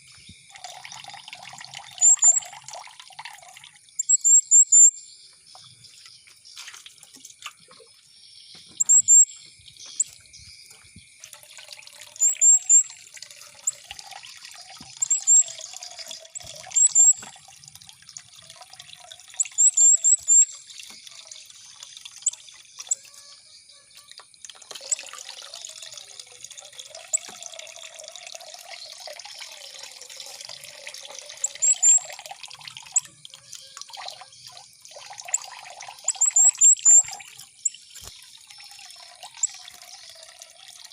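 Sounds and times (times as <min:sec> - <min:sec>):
water trickling: 0:00.0 - 0:40.9
small bird chirping: 0:01.8 - 0:02.7, 0:03.9 - 0:25.1, 0:25.9 - 0:27.5, 0:28.6 - 0:40.6.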